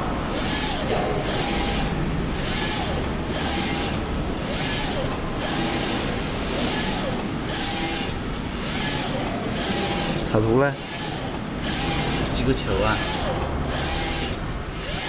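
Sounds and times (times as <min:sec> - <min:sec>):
printer hiss: 0:00.0 - 0:15.0
printer motor whining: 0:00.0 - 0:15.0.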